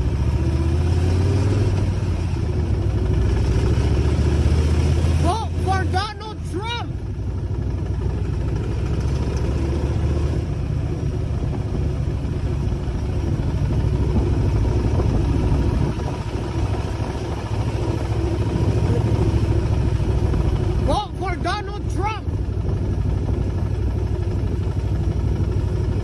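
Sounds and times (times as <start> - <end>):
motorcycle engine rumbling: 0.0 - 26.0
road noise: 0.0 - 26.0.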